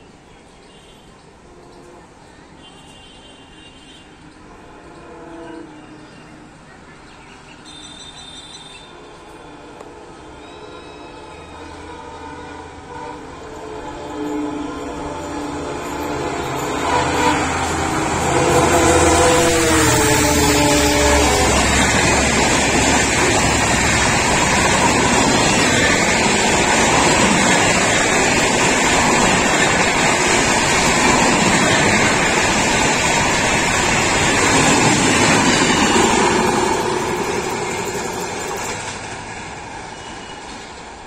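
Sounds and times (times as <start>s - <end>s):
train passing at speed: 3.5s - 41.0s.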